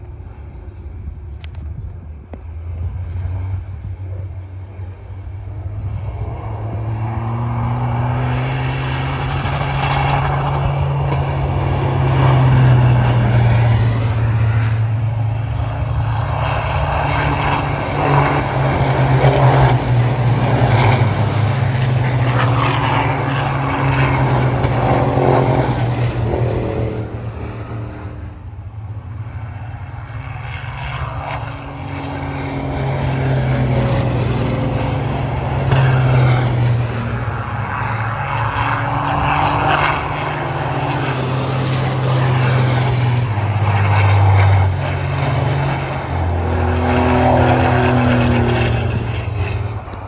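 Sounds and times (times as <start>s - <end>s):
diesel truck engines passing: 0.0s - 50.0s.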